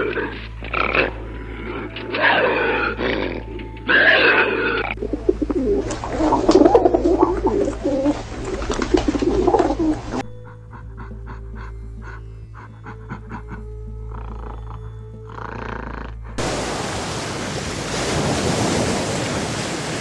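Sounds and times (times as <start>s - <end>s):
animal calls: 0.0s - 16.2s
low warbling animal calls: 0.0s - 16.4s.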